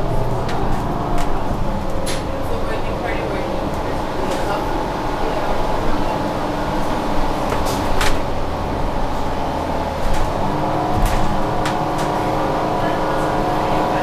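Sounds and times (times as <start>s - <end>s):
bus engine hum: 0.0s - 14.0s.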